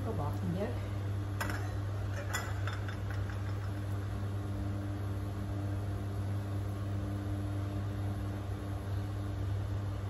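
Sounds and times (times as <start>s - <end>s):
induction cooktop humming: 0.0s - 10.0s.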